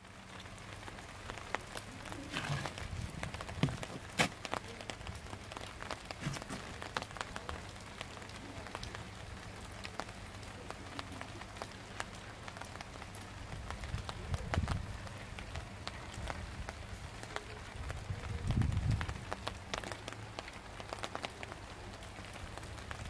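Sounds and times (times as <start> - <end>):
light rain pattering: 0.0 - 23.0.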